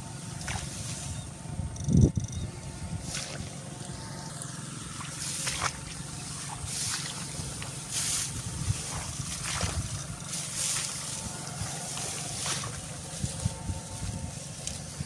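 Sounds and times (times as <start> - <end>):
steady low buzz: 0.0 - 15.0
wet grass swishing: 0.2 - 1.2, 3.0 - 15.0.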